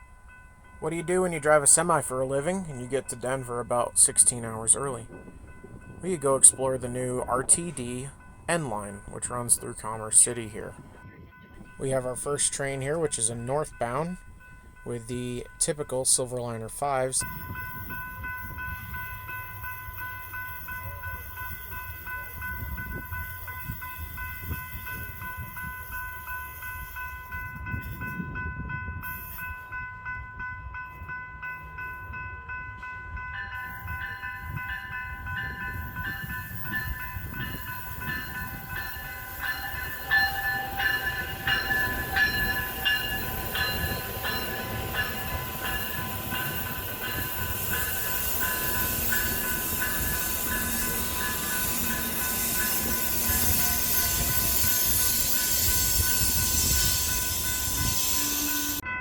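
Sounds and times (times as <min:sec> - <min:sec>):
electric train whine: 0:00.0 - 0:59.0.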